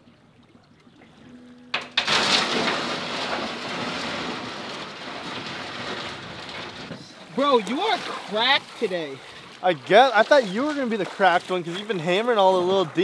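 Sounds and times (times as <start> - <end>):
boat hull scraping on gravel: 2.0 - 13.0.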